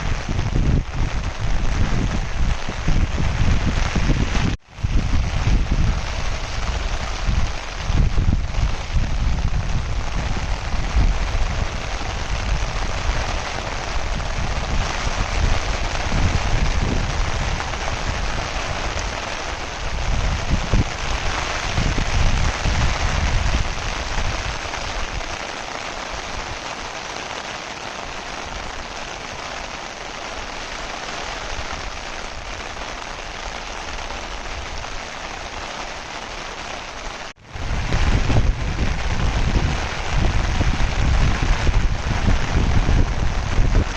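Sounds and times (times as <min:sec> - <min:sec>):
wind on microphone: 0:00.0 - 0:27.1, 0:28.0 - 0:43.9
steady rain falling: 0:00.0 - 0:43.9.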